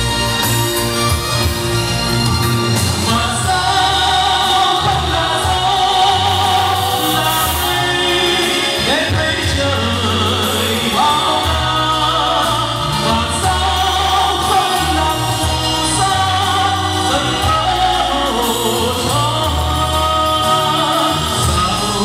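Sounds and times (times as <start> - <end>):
instrumental accompaniment with bass: 0.0 - 22.0
man singing into microphone: 2.8 - 22.0.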